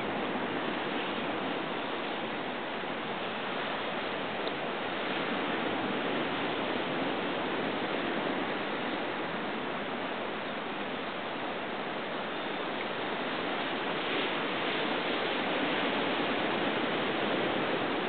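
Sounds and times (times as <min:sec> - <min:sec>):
surf rushing over rocks: 0:00.0 - 0:18.0.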